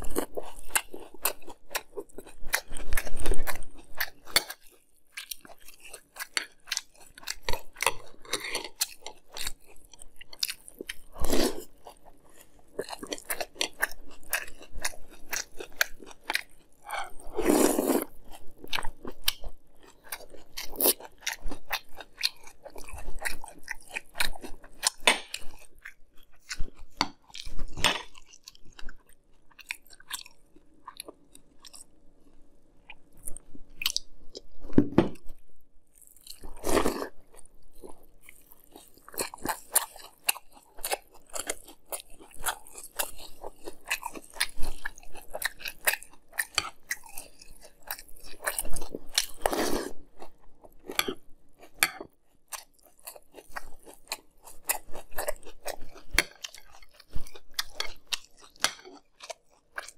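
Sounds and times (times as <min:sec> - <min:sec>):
chewing crunchy cereal: 0:00.0 - 0:34.5, 0:35.9 - 0:59.9.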